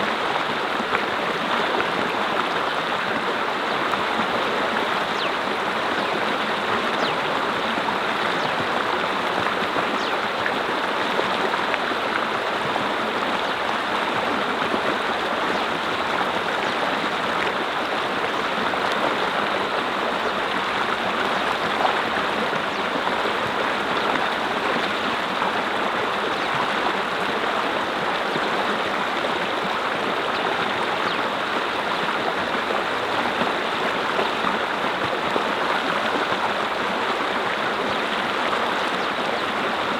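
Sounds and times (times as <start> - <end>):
brook flowing over rocks: 0.0 - 39.9.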